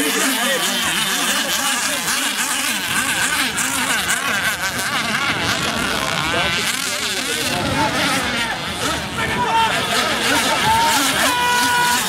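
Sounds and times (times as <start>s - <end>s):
rc boat motors buzzing: 0.0s - 12.0s.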